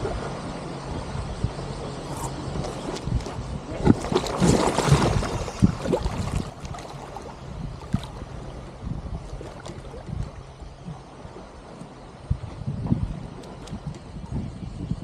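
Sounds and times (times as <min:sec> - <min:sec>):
wind on microphone: 0:00.0 - 0:15.0
water splashing and sloshing: 0:01.9 - 0:14.4.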